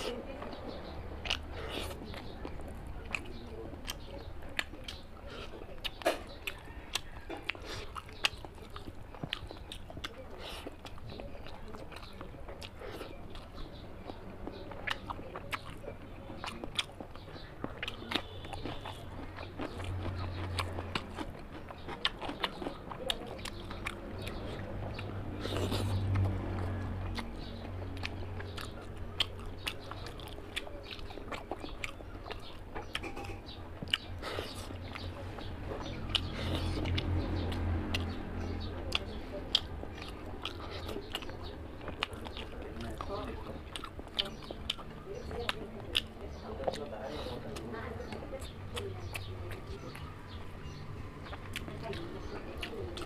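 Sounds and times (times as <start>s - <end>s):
chewing and biting food: 0.0s - 53.0s.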